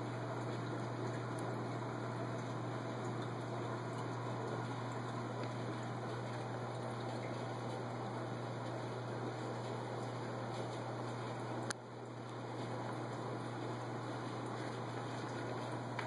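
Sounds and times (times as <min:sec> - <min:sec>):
aquarium filter hum: 0:00.0 - 0:16.0.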